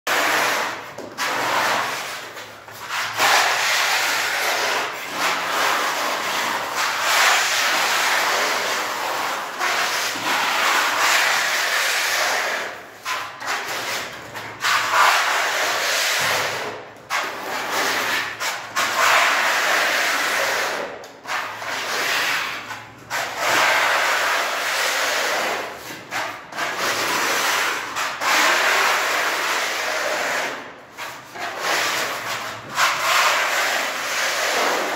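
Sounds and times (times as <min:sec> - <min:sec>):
putty blade scraping a wall: 0:00.1 - 0:34.9.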